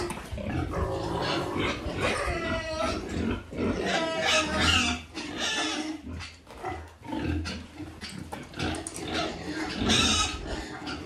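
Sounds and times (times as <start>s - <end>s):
pig grunting: 0.0s - 11.0s.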